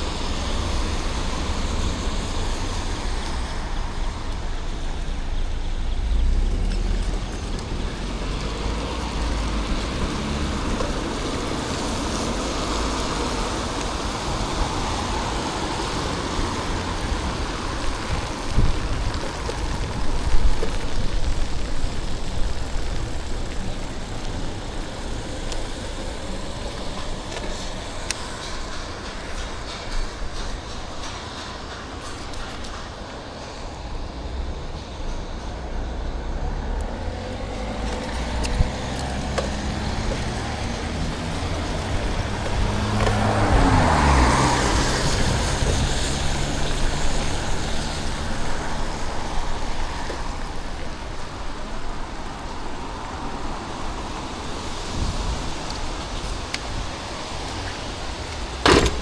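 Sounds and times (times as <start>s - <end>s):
cars passing: 0.0s - 59.0s
low traffic rumble: 0.0s - 59.0s.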